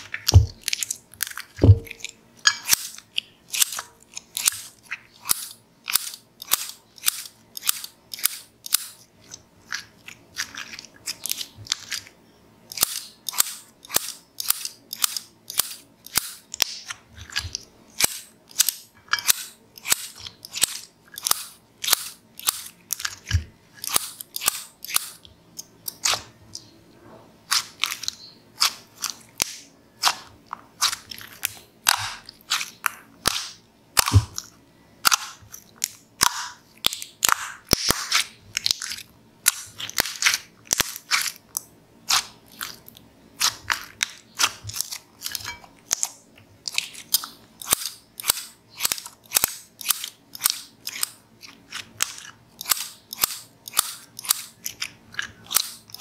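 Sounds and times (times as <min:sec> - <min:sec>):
scissors snipping slime: 0:00.0 - 0:09.0, 0:12.7 - 0:26.7, 0:27.5 - 0:56.0.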